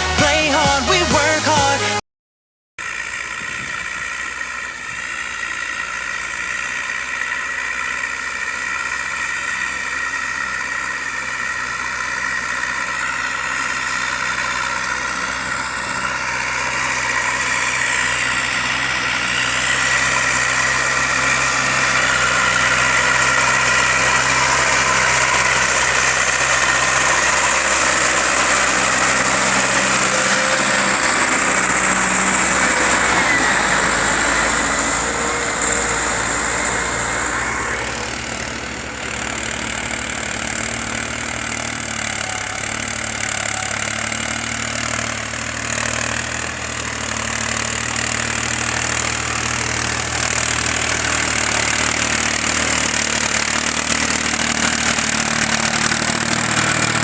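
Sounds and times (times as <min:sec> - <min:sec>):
tractor diesel engine running: 0:00.0 - 0:02.0, 0:02.8 - 0:57.0.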